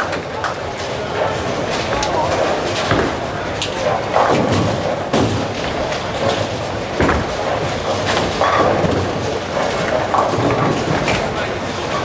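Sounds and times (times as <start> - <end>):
bowling balls rolling: 0.0 - 12.0
bowling balls thudding: 0.0 - 12.0.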